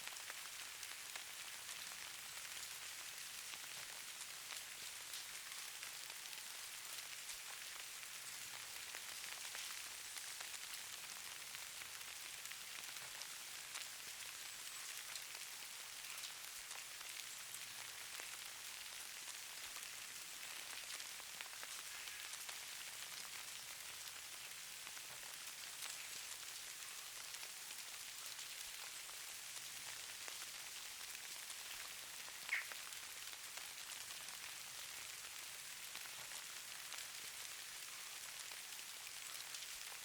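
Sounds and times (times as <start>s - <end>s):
falling snow pattering: 0.1s - 40.0s.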